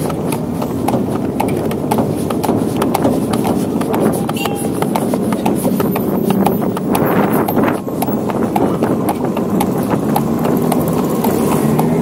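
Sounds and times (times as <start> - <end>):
carriage wheels rumbling: 0.0 - 12.0
hooves clip-clopping on pavement: 0.0 - 12.0.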